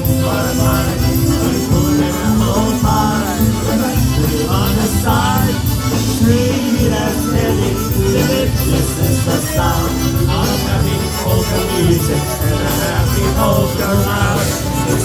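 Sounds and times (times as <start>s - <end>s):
polka band playing: 0.0s - 15.0s.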